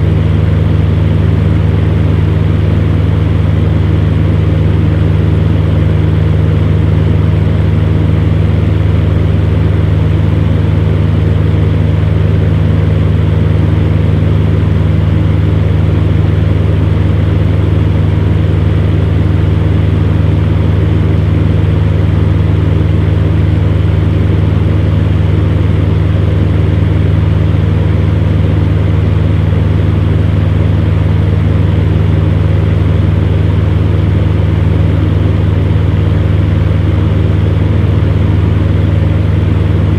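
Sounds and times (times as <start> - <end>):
electric fan whooshing hum: 0.0 - 39.9.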